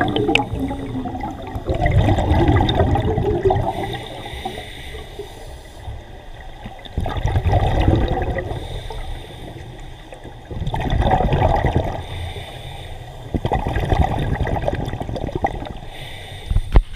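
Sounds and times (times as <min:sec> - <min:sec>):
scuba regulator bubbling: 0:00.0 - 0:16.9.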